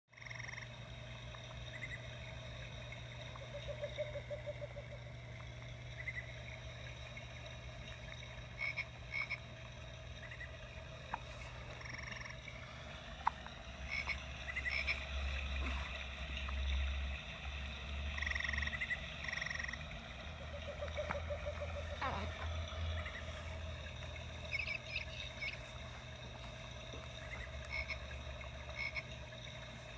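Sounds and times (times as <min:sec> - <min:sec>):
steady low hum: 0:00.2 - 0:29.9.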